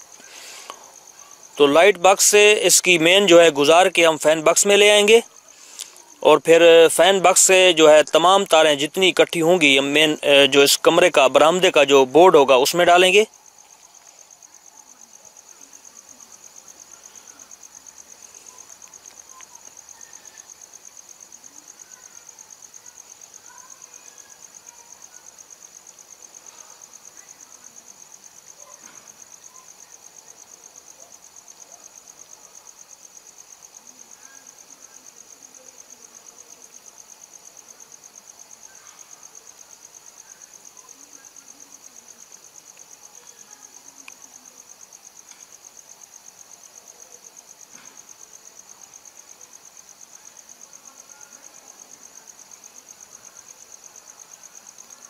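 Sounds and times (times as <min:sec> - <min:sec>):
cricket trilling: 0:00.0 - 0:55.0.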